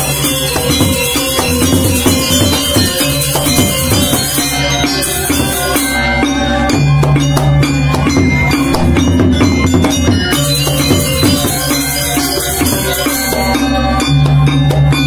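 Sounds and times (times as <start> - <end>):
bronze metallophones ringing: 0.0 - 15.0
hand drums: 0.0 - 15.0
sharp percussive strokes: 0.0 - 15.0.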